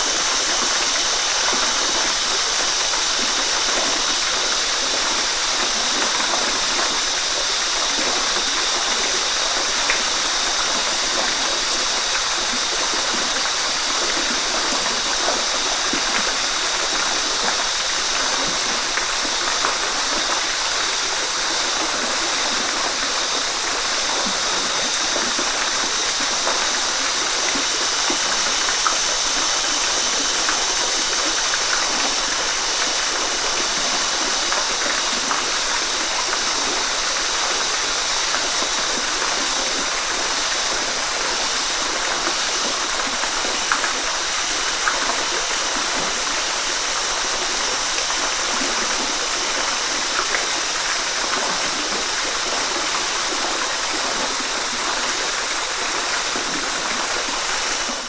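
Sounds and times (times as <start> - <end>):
water splashing and gurgling: 0.0 - 58.0
waterfall rushing: 0.0 - 58.0.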